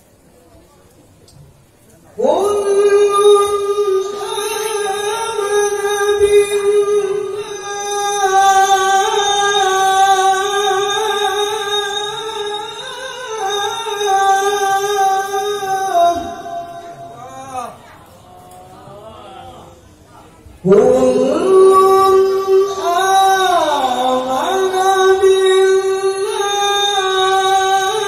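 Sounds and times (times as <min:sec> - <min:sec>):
man reciting melodically: 0:02.2 - 0:19.8, 0:20.5 - 0:28.0.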